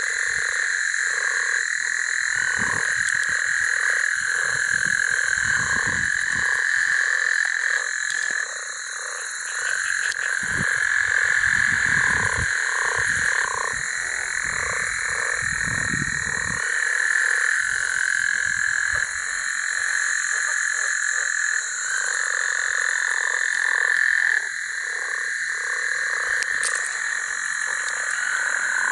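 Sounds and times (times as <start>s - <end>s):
frogs croaking: 0.0s - 28.9s
frogs trilling: 0.0s - 28.9s.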